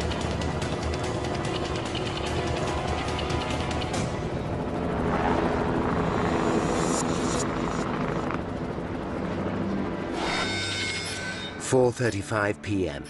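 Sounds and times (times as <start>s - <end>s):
helicopter hovering: 0.0s - 12.9s.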